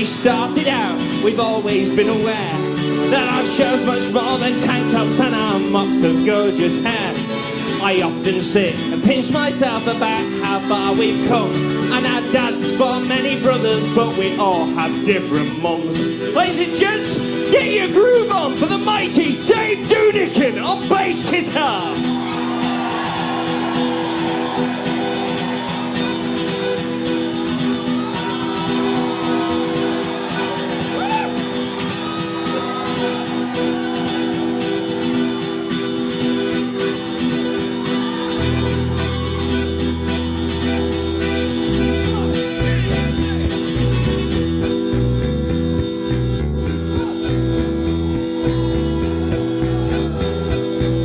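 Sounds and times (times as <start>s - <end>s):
live band playing: 0.0s - 51.0s
strummed guitar: 0.0s - 51.0s.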